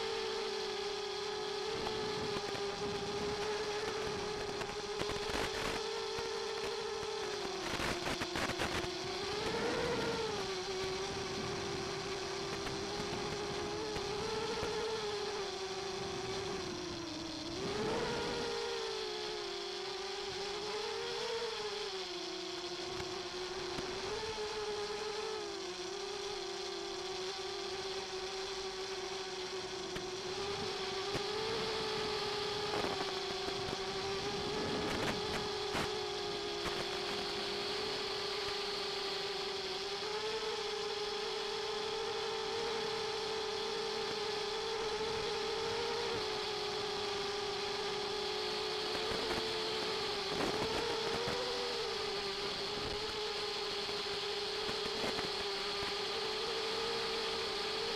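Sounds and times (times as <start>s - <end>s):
drone motors buzzing: 0.0s - 57.9s.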